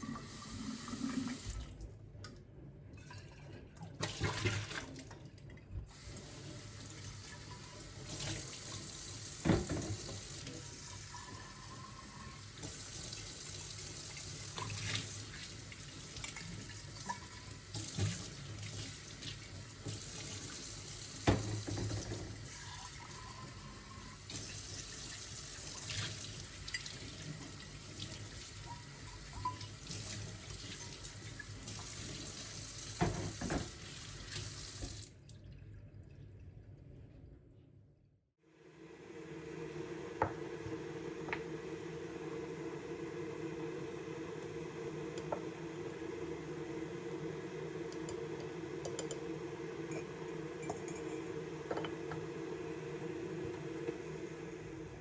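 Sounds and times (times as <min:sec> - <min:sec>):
water running from tap into sink: 0:00.0 - 0:01.6, 0:05.9 - 0:35.1, 0:39.6 - 0:54.8.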